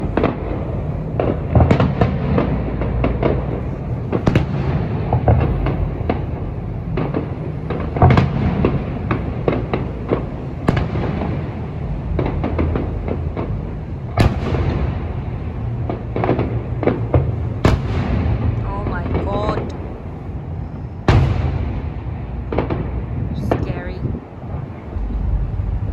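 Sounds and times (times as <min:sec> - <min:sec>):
fireworks bangs and crackles: 0:00.0 - 0:25.9
loud sharp firework bangs: 0:00.0 - 0:25.9.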